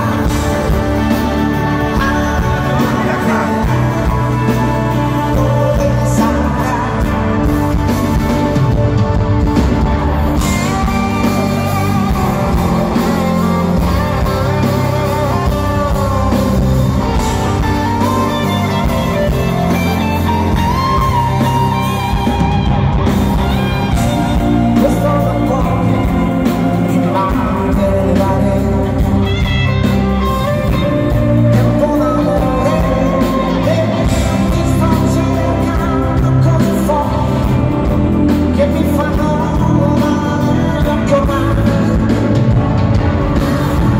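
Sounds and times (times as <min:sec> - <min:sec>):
live pop-rock band: 0:00.0 - 0:43.9
man singing lead: 0:00.0 - 0:43.9.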